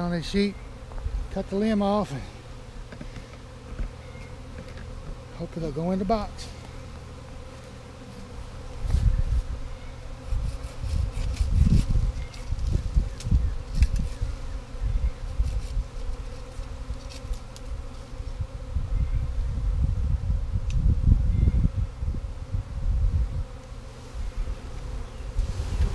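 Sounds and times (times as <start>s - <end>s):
bees buzzing: 0.0s - 25.9s.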